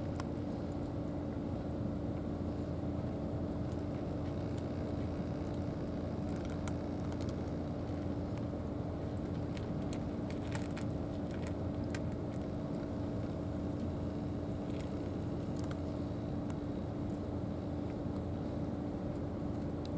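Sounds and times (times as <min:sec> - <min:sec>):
engine drone: 0:00.0 - 0:19.9.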